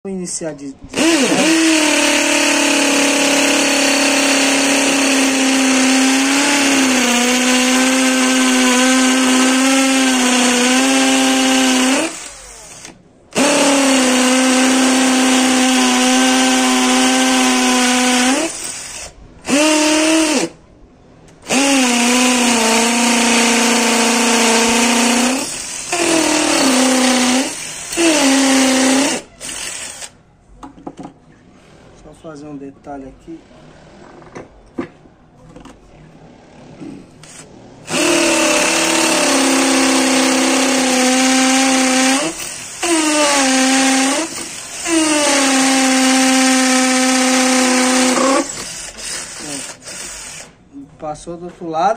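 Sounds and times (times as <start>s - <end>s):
cordless drill drilling into concrete: 0.9s - 20.6s, 21.4s - 30.1s, 37.2s - 50.6s.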